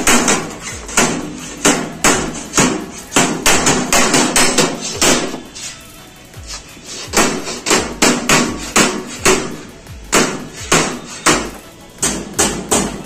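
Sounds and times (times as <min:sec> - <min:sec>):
hammer striking steel sheet: 0:00.0 - 0:05.7, 0:07.0 - 0:13.0.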